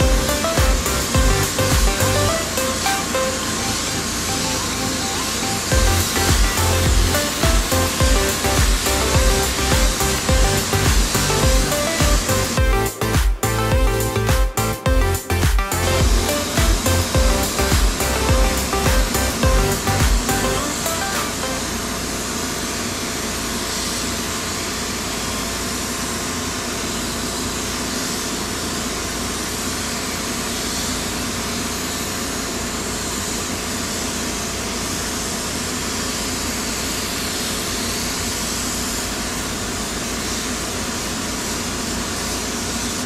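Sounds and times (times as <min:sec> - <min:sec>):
spray gun air hissing: 0:00.0 - 0:21.7, 0:22.6 - 0:43.0
blower fan drone: 0:00.0 - 0:43.0.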